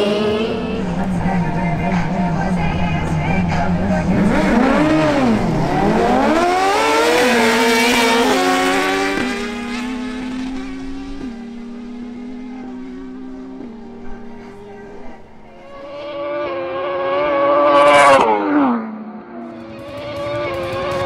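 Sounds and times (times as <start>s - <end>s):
motorcycle engines revving: 0.0s - 21.0s
motorcycle upshifts: 3.2s - 21.0s.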